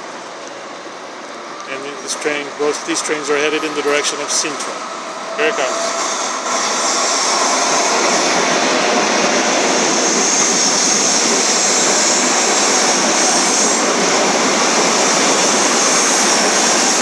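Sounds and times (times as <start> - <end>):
electric train passing: 0.0 - 17.0
wheels rushing on rail: 0.0 - 17.0.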